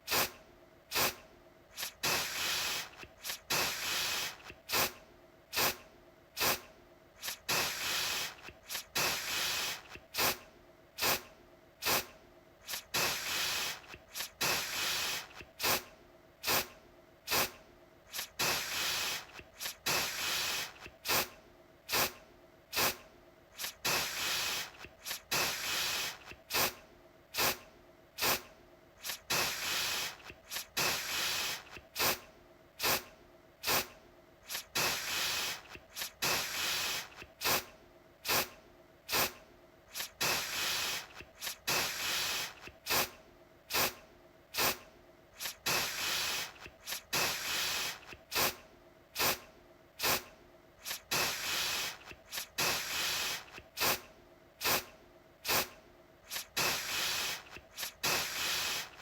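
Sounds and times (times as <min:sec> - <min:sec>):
aerosol can spraying: 0:00.1 - 0:05.8, 0:06.4 - 0:06.6, 0:07.2 - 0:10.4, 0:11.0 - 0:15.8, 0:16.4 - 0:16.7, 0:17.3 - 0:21.3, 0:21.9 - 0:26.8, 0:27.4 - 0:27.6, 0:28.2 - 0:32.2, 0:32.8 - 0:38.5, 0:39.1 - 0:44.0, 0:44.6 - 0:44.8, 0:45.4 - 0:48.6, 0:49.2 - 0:49.4, 0:50.0 - 0:55.7, 0:56.3 - 0:59.0.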